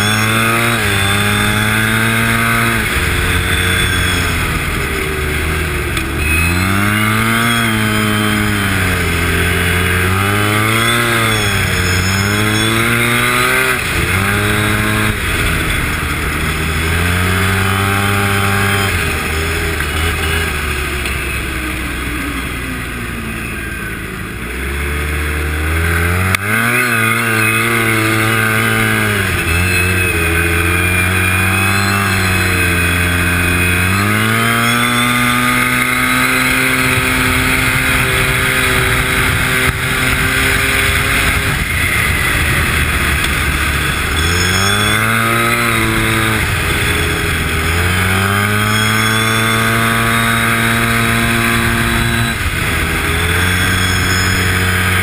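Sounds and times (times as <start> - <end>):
snowmobile engine accelerating: 0.0 - 55.0.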